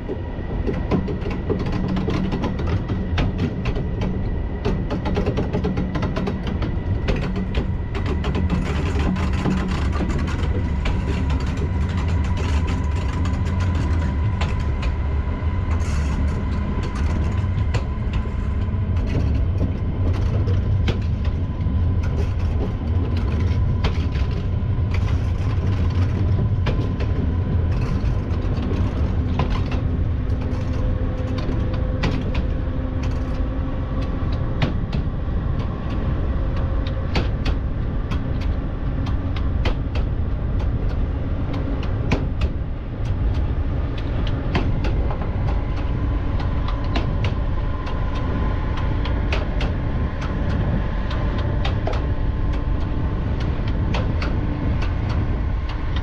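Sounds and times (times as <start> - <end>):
scattered clicks and knocks: 0.0 - 56.0
wheels rumbling on rails: 0.0 - 56.0.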